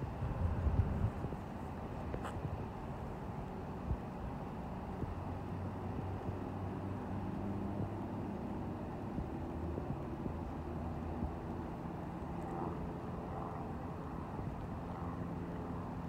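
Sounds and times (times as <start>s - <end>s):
wind rumble: 0.0s - 16.0s.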